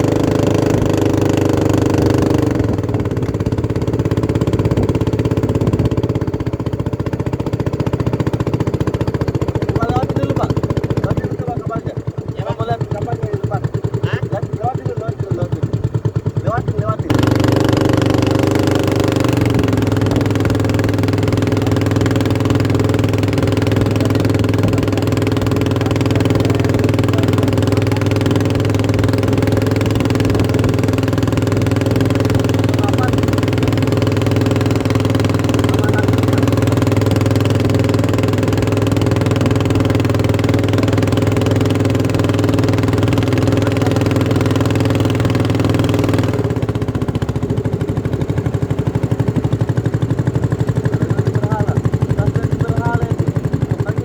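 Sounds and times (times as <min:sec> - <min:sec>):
engine droning steadily: 0:00.0 - 0:54.0.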